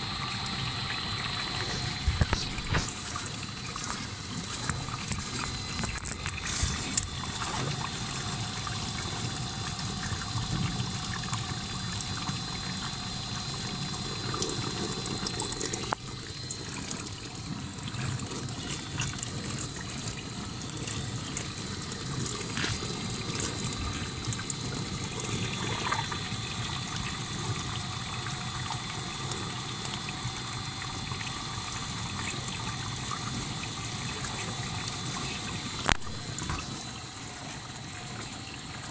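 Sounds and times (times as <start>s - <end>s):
dishwasher water rushing: 0.0s - 38.9s.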